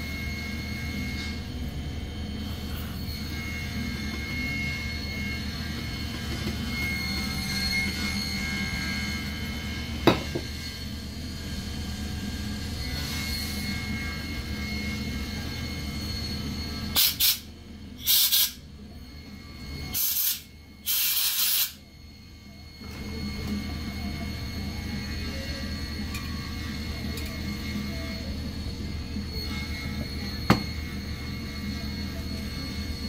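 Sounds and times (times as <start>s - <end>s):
steady shop hum: 0.0s - 33.0s.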